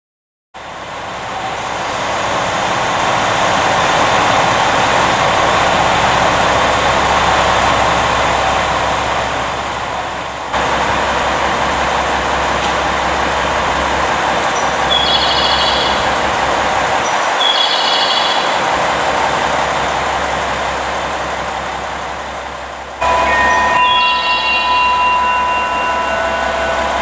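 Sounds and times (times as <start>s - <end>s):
diesel railcar idling: 0.6s - 27.0s
train mechanical drone: 0.6s - 27.0s.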